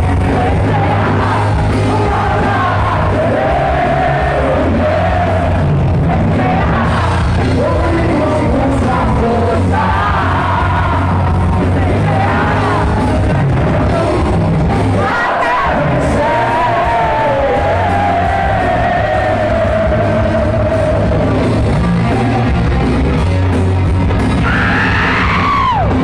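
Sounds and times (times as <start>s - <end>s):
singer's voice: 0.0s - 23.0s
heavy metal band playing: 0.0s - 26.0s.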